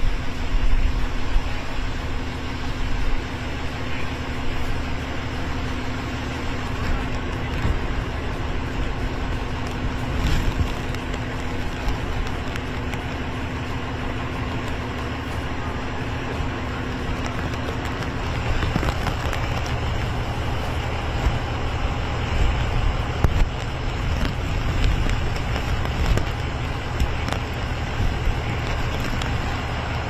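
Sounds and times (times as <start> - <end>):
heavy rain falling: 0.0 - 30.0
wind buffeting microphone: 0.0 - 30.0.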